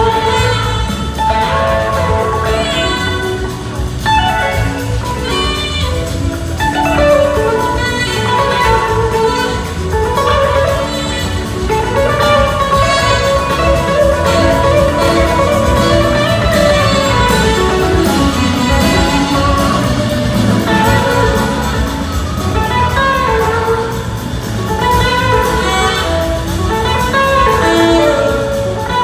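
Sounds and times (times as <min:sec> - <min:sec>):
bass guitar: 0:00.0 - 0:29.0
drums: 0:00.0 - 0:29.0
electric guitar sliding notes: 0:00.0 - 0:29.0
horn section: 0:00.0 - 0:29.0.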